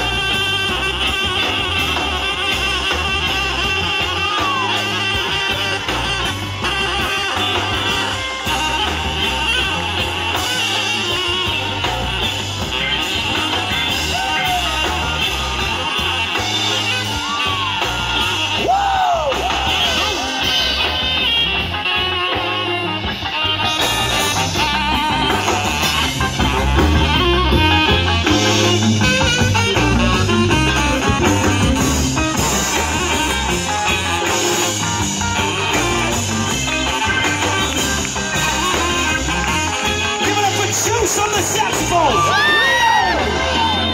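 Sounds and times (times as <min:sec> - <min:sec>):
live band playing: 0:00.0 - 0:43.9
saxophone solo: 0:00.0 - 0:43.9.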